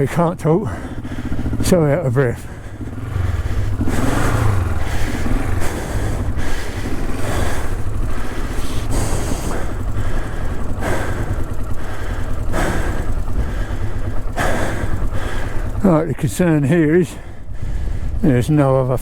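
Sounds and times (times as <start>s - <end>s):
motorcycle engine idling: 0.0s - 19.0s
person panting hard: 0.4s - 18.2s.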